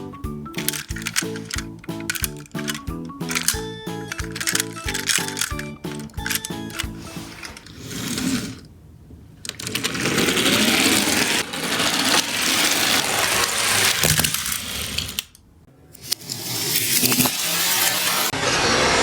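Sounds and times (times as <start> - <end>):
toy cars rolling and rattling: 0.4 - 8.7, 9.4 - 18.4.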